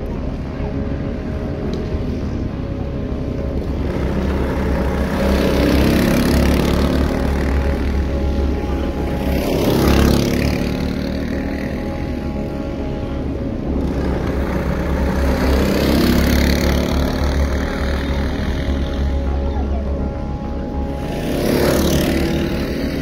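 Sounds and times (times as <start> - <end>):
kart engines passing: 0.0 - 23.0.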